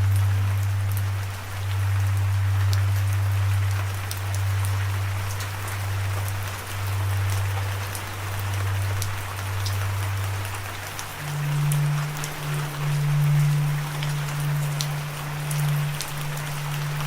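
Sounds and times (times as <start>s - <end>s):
low sustained musical note: 0.0s - 17.0s
sharp rain drops: 0.0s - 17.0s
steady rain falling: 0.0s - 17.0s.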